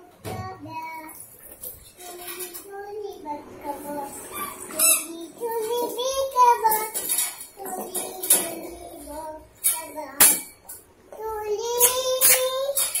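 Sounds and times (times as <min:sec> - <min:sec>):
child talking sing-song: 0:00.0 - 0:01.3, 0:02.0 - 0:10.5, 0:11.1 - 0:13.0.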